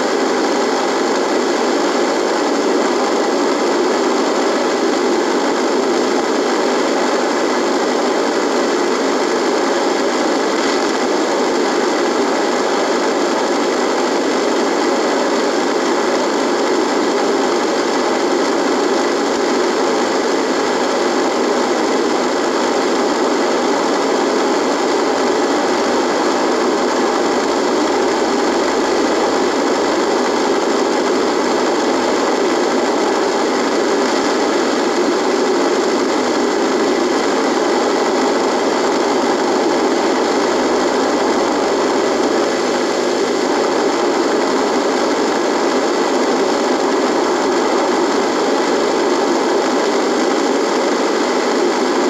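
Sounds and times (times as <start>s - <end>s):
radio static buzzing: 0.0s - 52.0s.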